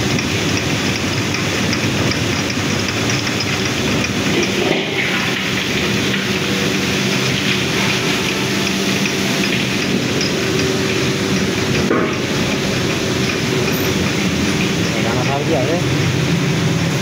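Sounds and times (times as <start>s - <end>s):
oil expeller machine running: 0.0s - 17.0s.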